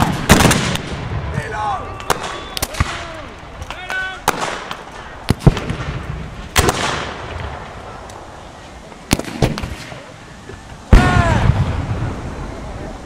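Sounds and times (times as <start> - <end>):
pyrotechnic bangs: 0.0 - 13.0.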